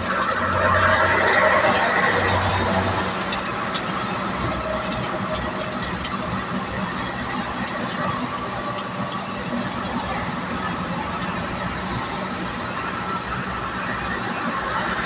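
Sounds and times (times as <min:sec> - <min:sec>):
vehicle engine and tyre noise: 0:00.0 - 0:15.0.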